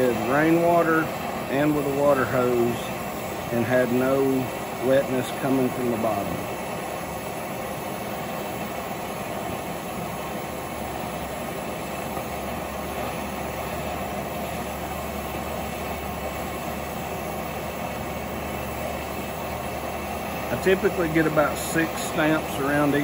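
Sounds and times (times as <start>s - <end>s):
torch hissing: 0.0s - 23.0s.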